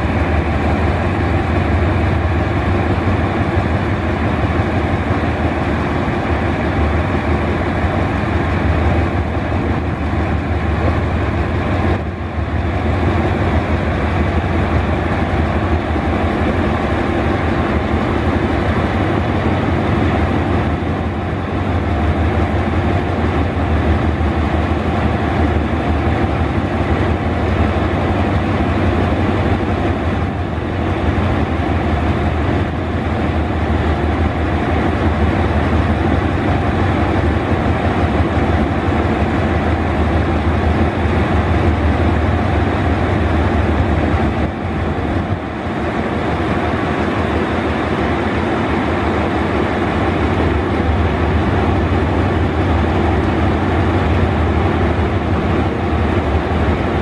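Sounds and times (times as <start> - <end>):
diesel locomotive humming: 0.0 - 57.0.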